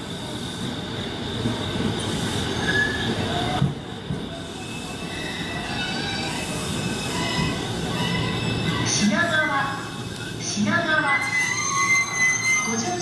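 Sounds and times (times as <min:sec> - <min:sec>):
train wheels squealing: 0:00.1 - 0:08.9, 0:11.1 - 0:13.0.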